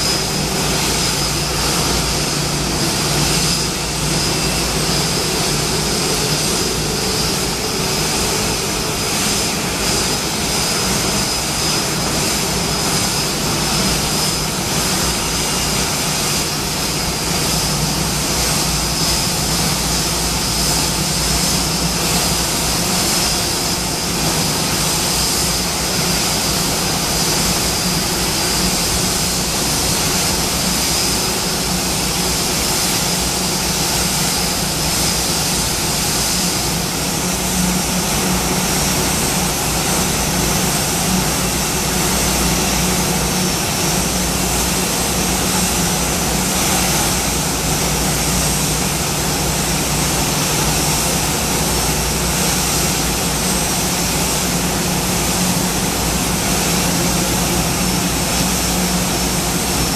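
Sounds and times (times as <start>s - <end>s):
jet engines idling with whine: 0.0s - 59.9s.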